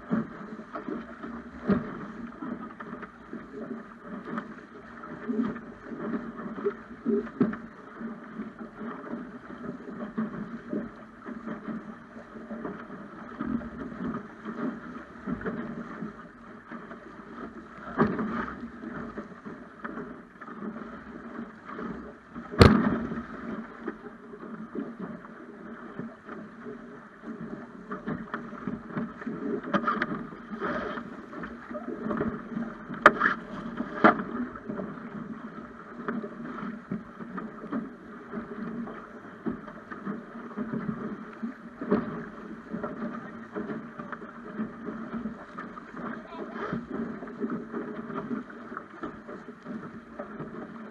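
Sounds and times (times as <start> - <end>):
water splashing along a hull: 0.0 - 50.9.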